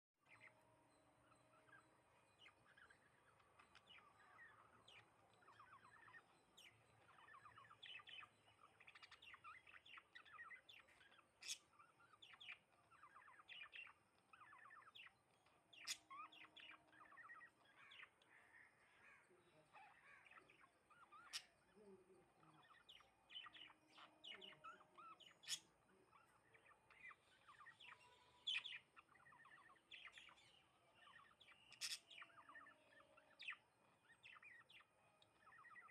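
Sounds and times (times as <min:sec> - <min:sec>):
sparrows chirping: 0:00.2 - 0:35.9.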